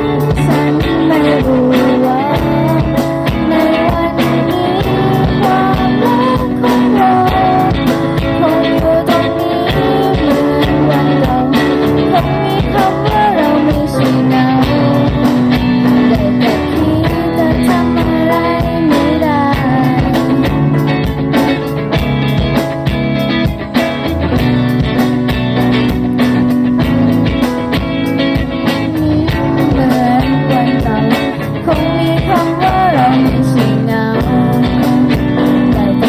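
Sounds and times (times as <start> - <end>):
rock band music: 0.0 - 36.0.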